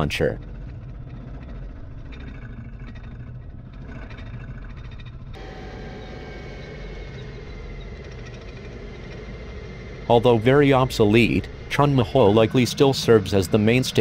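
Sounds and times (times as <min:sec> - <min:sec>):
tank engine and track rumble: 0:00.0 - 0:14.0
turbine engine whine: 0:00.0 - 0:14.0.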